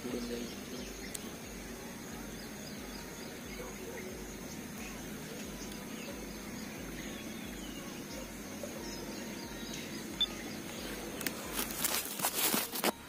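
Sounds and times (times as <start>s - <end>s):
faint bird chirps: 0.0s - 13.0s
thin steady high tone: 0.0s - 13.0s.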